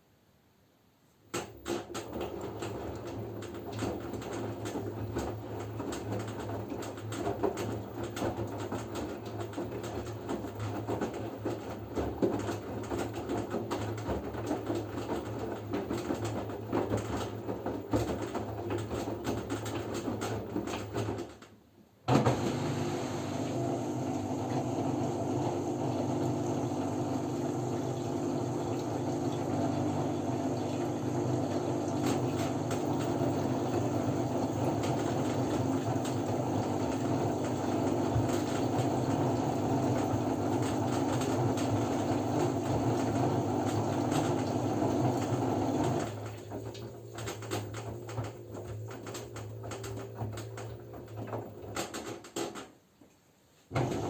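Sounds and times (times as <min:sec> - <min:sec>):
machine hum with running water: 0:01.2 - 0:21.4, 0:22.1 - 0:54.0
washing machine drum turning: 0:01.3 - 0:21.4, 0:22.1 - 0:52.8, 0:53.7 - 0:54.0
water and laundry sloshing: 0:01.5 - 0:21.4, 0:22.1 - 0:52.6, 0:53.5 - 0:54.0.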